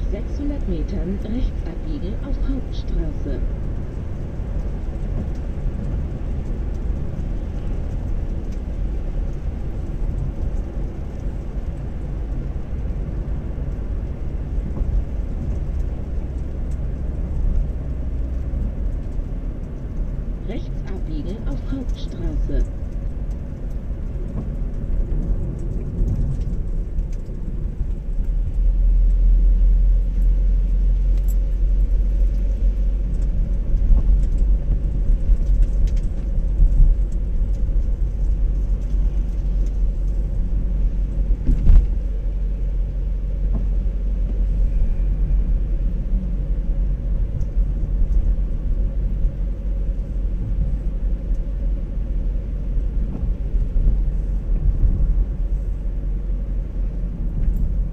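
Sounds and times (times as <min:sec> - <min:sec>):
car driving on wet road: 0:00.0 - 0:57.9.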